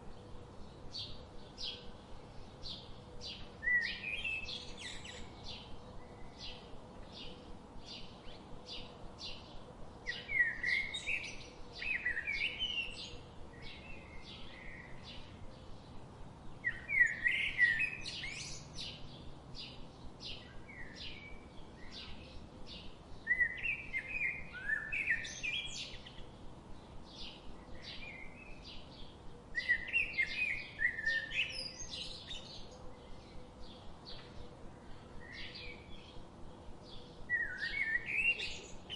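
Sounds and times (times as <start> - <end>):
warbling birdsong: 0.0 - 38.9.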